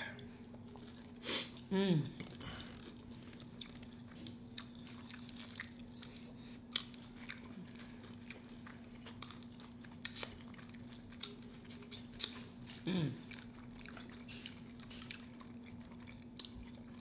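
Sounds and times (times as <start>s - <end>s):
people chewing crunchy food: 0.0s - 17.0s.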